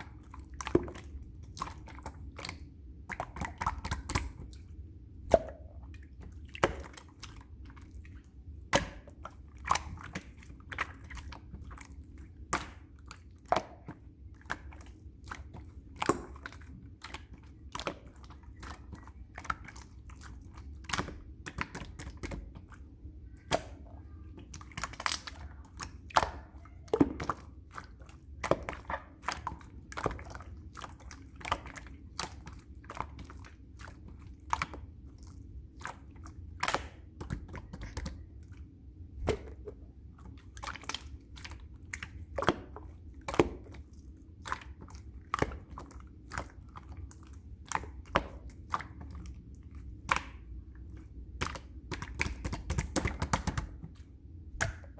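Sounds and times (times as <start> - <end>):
slime squished by hand: 0.0 - 54.9.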